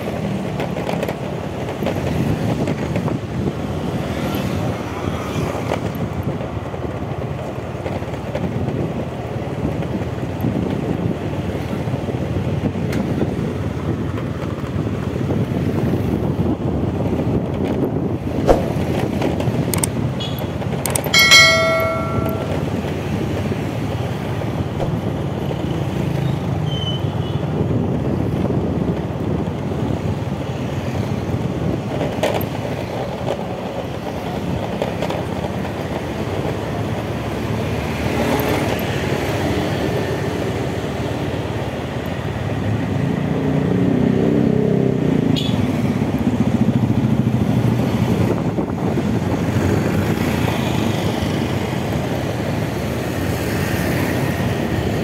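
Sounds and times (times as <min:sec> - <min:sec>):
motorcycle engine and road noise: 0:00.0 - 0:55.0
surrounding traffic: 0:00.0 - 0:55.0.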